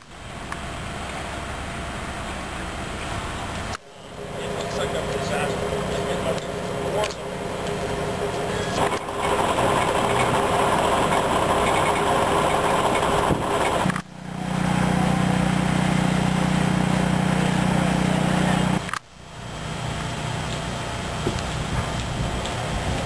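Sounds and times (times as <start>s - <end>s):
engines running steadily: 0.0s - 23.0s.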